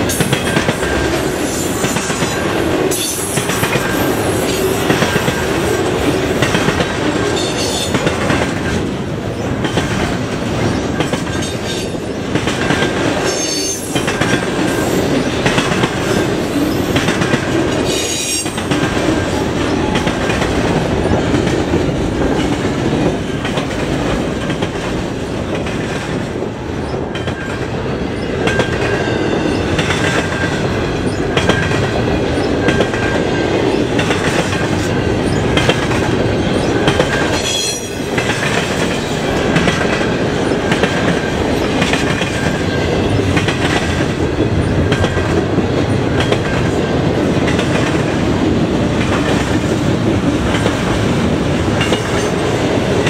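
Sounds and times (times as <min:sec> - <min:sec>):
freight train wheels clicking: 0:00.0 - 0:53.0
train rumble: 0:00.0 - 0:53.0.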